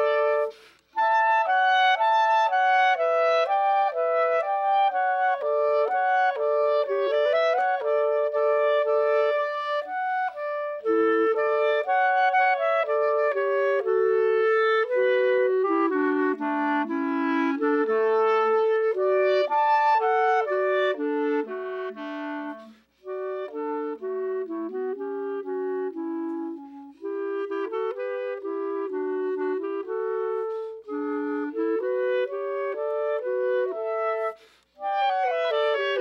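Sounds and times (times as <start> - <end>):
clarinet duet: 0.0 - 36.0.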